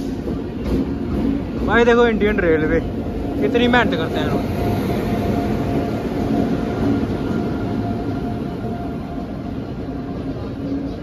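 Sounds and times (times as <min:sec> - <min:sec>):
passenger train rolling past: 0:00.0 - 0:11.0.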